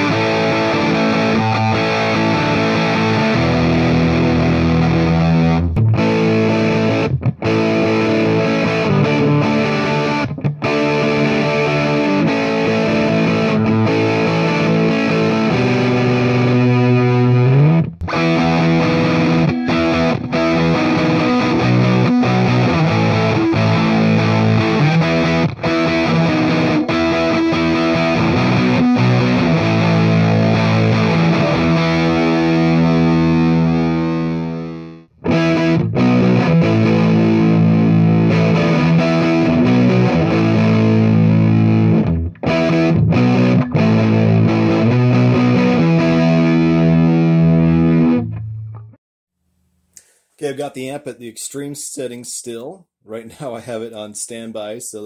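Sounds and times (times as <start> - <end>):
distorted electric guitar chords: 0.0 - 49.0.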